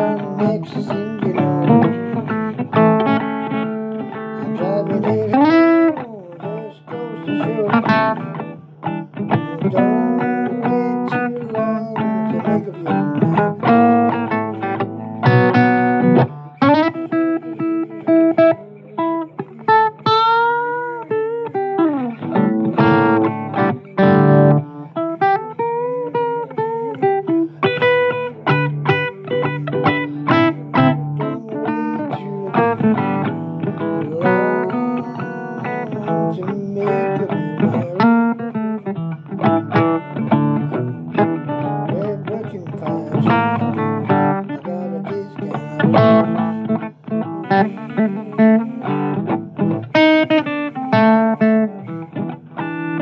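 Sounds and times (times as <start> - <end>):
blues guitar lead: 0.0 - 53.0.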